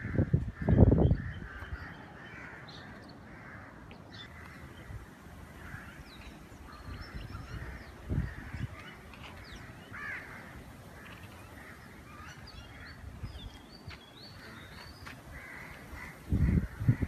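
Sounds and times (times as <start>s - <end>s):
birds cawing: 0.0s - 17.0s.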